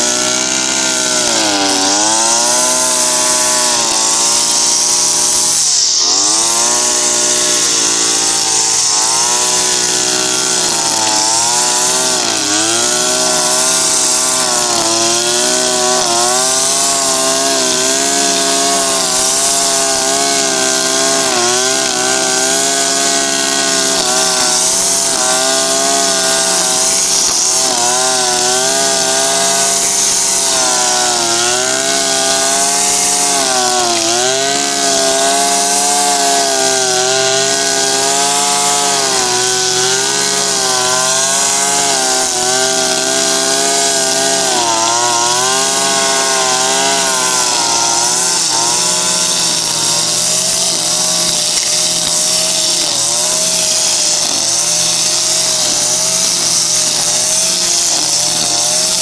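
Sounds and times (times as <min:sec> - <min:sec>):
brushcutter engine at full throttle: 0:00.0 - 0:59.0
trimmer head cutting grass: 0:00.0 - 0:59.0.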